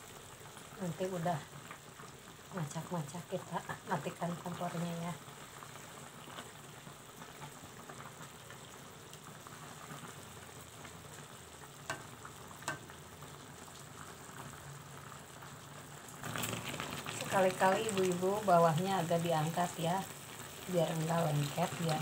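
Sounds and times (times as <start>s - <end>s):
broth bubbling and sizzling: 0.0s - 22.0s.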